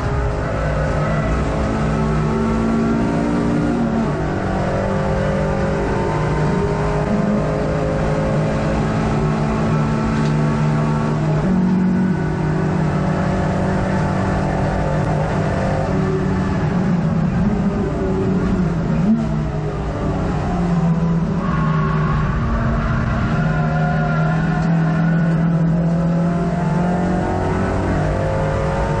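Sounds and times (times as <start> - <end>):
race car engine running hard: 0.0 - 29.0
road and wind noise: 0.0 - 29.0.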